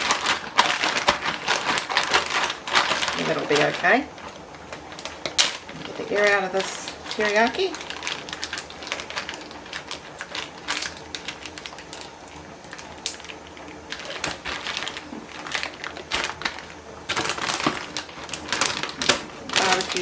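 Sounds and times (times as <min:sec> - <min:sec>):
faint steady hum: 0:00.0 - 0:20.0
plastic bag crinkling: 0:00.0 - 0:20.0.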